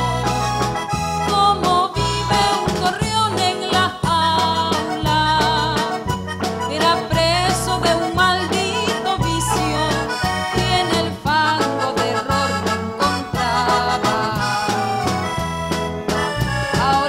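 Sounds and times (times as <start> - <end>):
instrumental melody over bass beat: 0.0 - 17.0.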